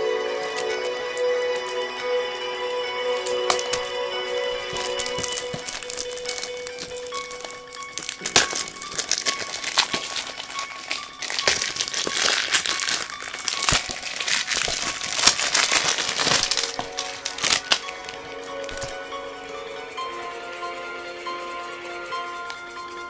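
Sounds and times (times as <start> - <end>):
plastic shrink-wrap crinkling: 0.0 - 2.5, 3.1 - 20.1
faint music: 0.0 - 23.0.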